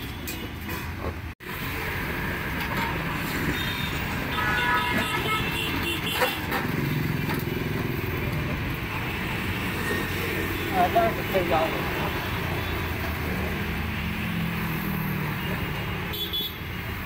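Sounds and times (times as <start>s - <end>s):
traffic going by: 0.0s - 17.0s.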